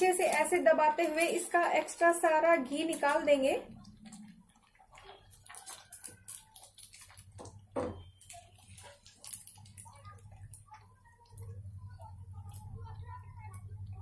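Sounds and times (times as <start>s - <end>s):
crackling of frying in oil: 0.0s - 14.0s.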